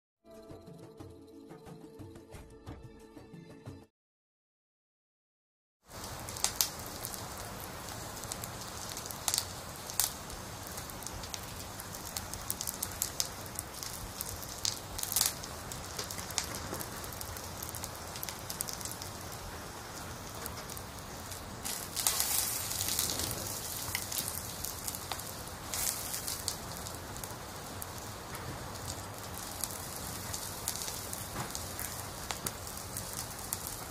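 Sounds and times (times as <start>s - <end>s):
meat sizzling on grill: 5.9s - 33.9s
sharp pops and crackles: 5.9s - 33.9s.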